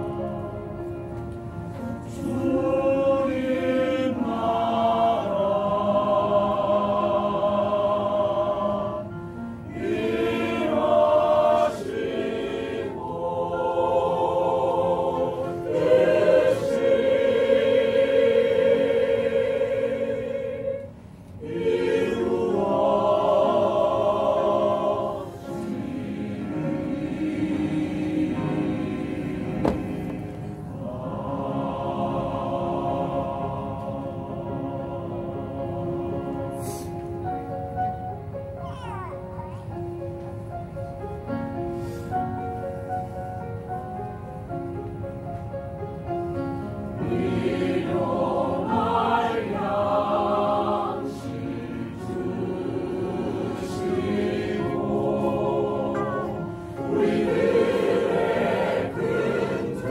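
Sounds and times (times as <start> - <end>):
choir singing: 0.0 - 1.0, 1.8 - 37.5, 46.9 - 59.9.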